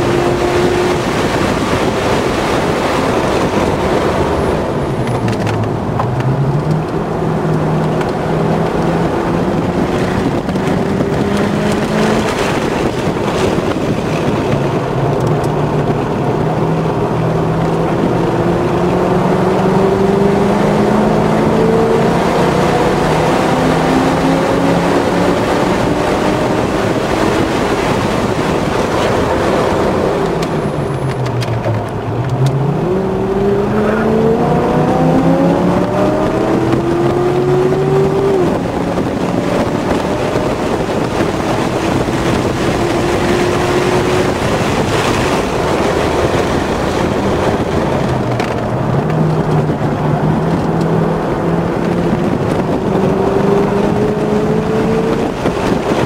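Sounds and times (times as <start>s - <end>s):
car engine accelerating hard: 0.0s - 56.0s
wind and road noise: 0.0s - 56.0s.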